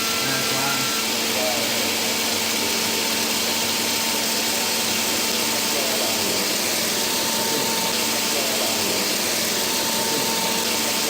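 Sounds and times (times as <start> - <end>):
glass milling machine hiss and whine: 0.0 - 11.0.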